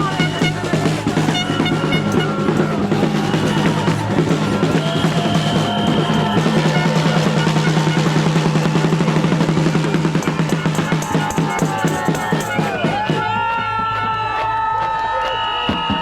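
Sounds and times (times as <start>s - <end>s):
drum roll: 0.0s - 14.3s.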